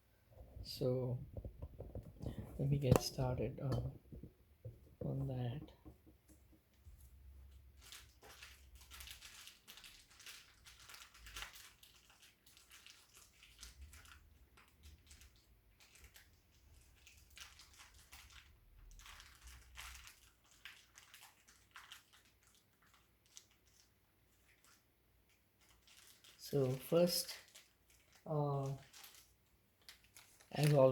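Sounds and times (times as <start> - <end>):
plastic rustling and crinkling: 0.3 - 30.9.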